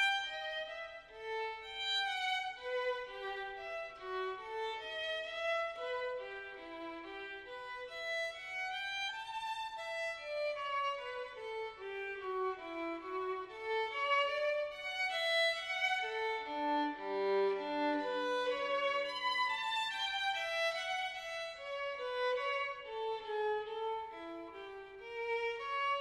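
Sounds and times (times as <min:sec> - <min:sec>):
violin melody: 0:00.0 - 0:26.0.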